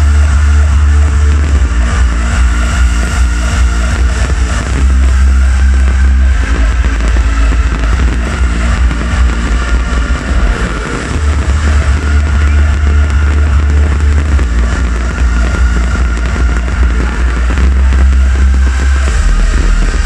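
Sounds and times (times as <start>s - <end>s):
loud hardstyle music with heavy bass: 0.0s - 20.0s.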